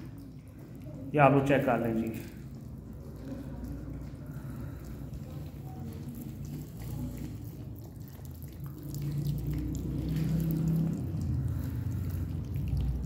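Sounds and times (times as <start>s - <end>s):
puppies lapping and chewing: 0.0s - 13.0s.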